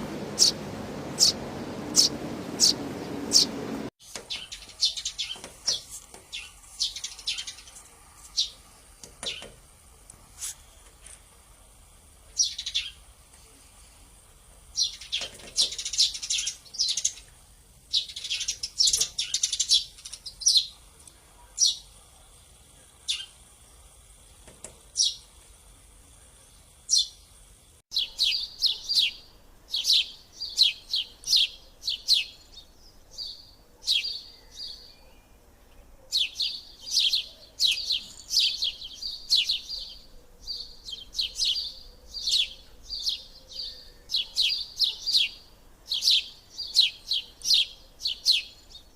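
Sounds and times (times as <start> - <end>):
sparrows chirping: 0.0 - 9.6, 12.2 - 14.0, 14.6 - 25.4, 26.3 - 48.9.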